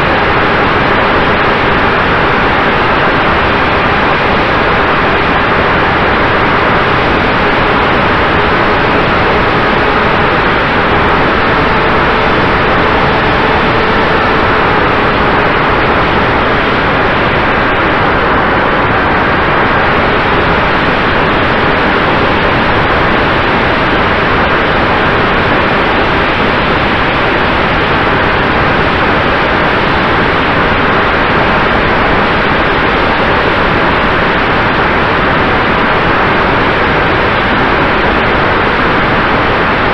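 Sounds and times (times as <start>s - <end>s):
faint steady tones: 0.0s - 39.9s
loud steady hiss: 0.0s - 39.9s.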